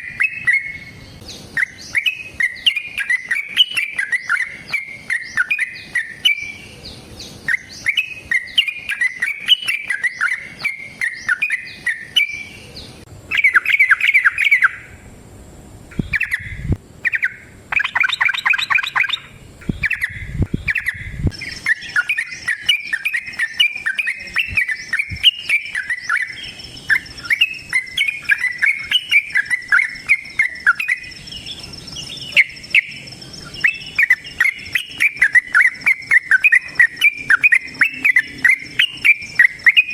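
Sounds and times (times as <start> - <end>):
bird chattering song: 0.0 - 15.0, 15.9 - 39.9.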